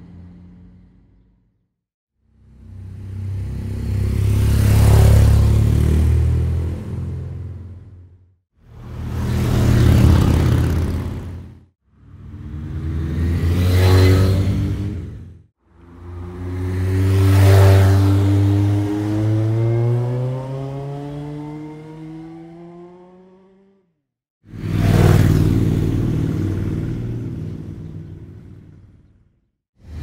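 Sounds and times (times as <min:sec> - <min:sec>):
motorcycle passing by: 0:02.5 - 0:07.8, 0:08.7 - 0:23.9, 0:24.5 - 0:29.0.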